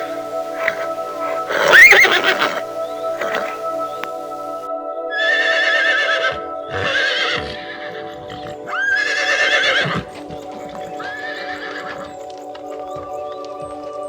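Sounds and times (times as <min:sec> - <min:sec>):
horse whinnying: 0:00.0 - 0:04.4, 0:05.2 - 0:12.3
background music: 0:00.0 - 0:14.0.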